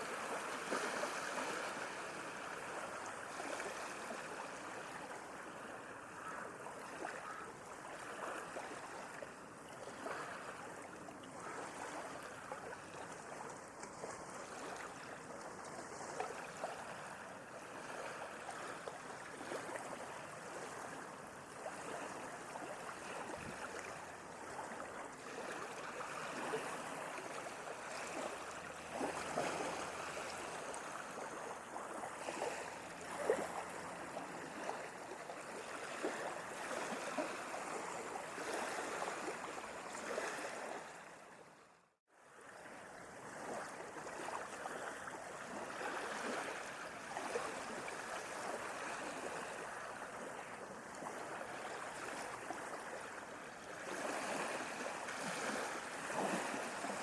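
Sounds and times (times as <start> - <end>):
sea water lapping: 0.0 - 57.0.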